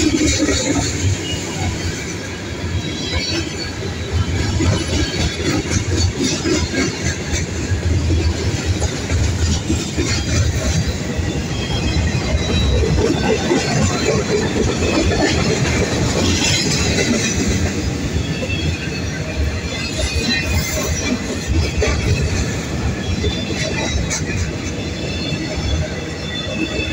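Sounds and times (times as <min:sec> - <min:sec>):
freight train wheels rumbling: 0:00.0 - 0:26.9.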